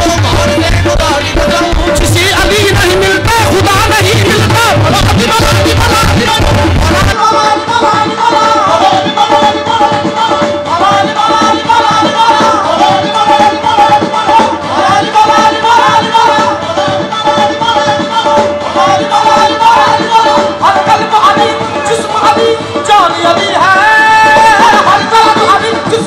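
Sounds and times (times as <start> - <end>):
person singing ornamented lines: 0.0 - 26.0
tabla: 0.0 - 26.0.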